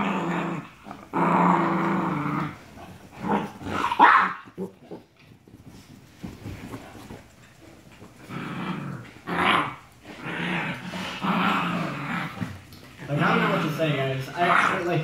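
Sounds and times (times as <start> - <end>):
dogs growling while play-fighting: 0.0 - 15.0.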